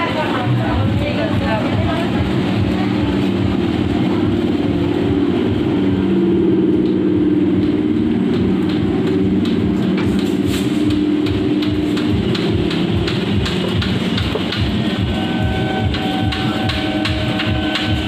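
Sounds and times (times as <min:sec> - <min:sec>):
electric train motors humming: 0:00.0 - 0:18.0
rumble of train cars: 0:00.0 - 0:18.0.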